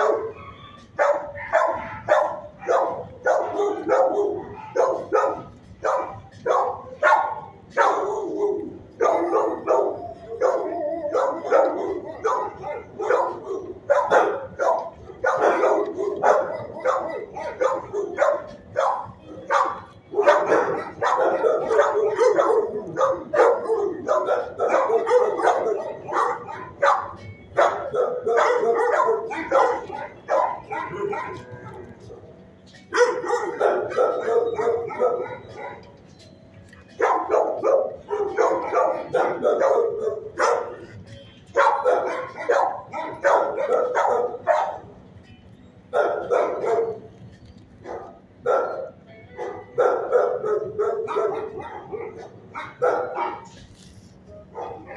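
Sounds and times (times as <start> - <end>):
dogs barking: 0.0 - 45.2, 45.8 - 54.9.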